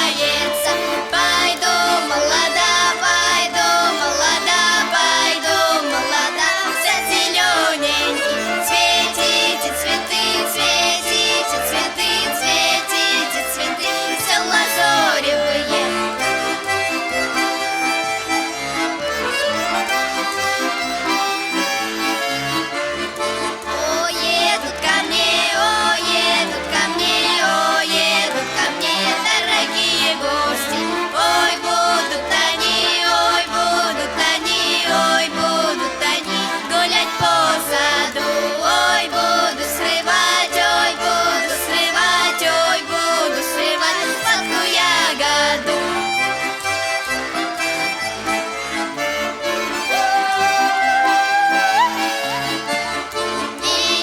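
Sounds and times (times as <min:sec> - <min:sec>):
accordion playing folk tune: 0:00.0 - 0:54.0.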